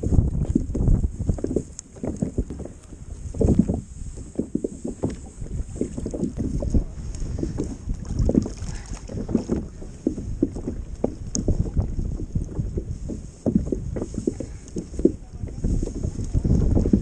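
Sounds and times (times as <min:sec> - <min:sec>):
small waves slapping a hull: 0:00.0 - 0:17.0
wind buffeting the microphone: 0:00.0 - 0:17.0.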